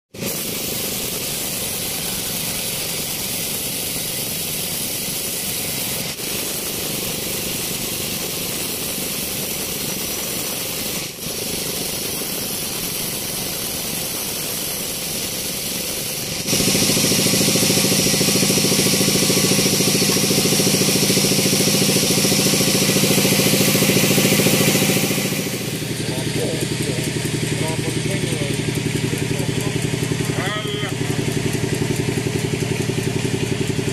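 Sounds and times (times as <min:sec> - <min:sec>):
saw blade hissing through wood: 0:00.1 - 0:33.9
sawmill machine running: 0:00.1 - 0:33.9.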